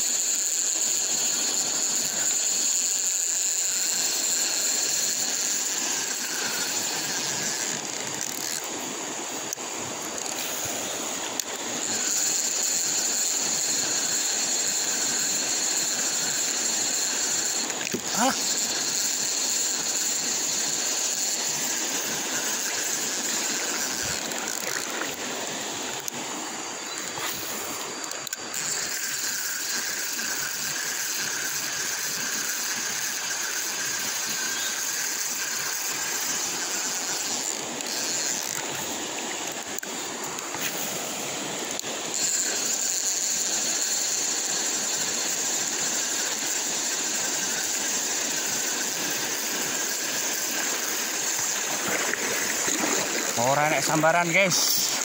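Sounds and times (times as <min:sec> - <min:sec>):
high-pitched hiss: 0:00.0 - 0:55.0
water running over rocks: 0:00.0 - 0:55.0.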